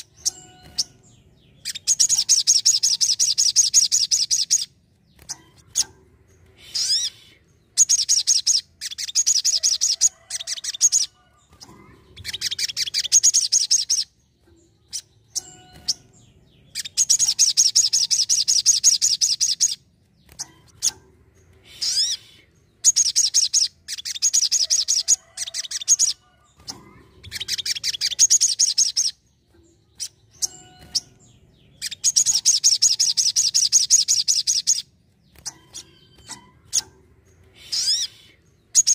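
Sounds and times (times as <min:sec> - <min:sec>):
sunbird trilling song: 0:00.0 - 0:38.9.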